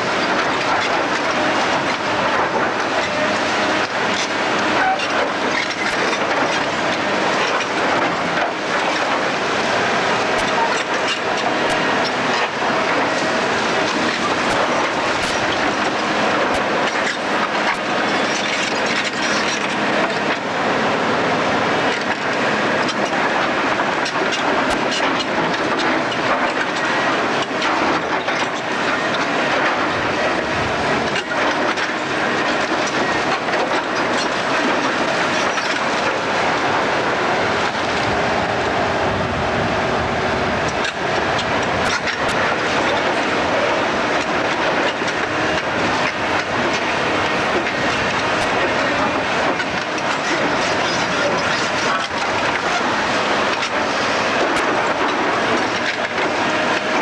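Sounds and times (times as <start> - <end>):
demolition machinery rumble: 0.0 - 57.0.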